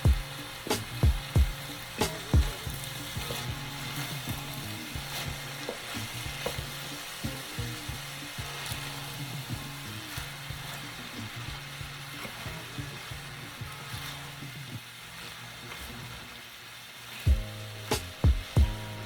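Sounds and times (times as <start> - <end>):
vegetables sizzling in a pan: 0.0 - 19.0.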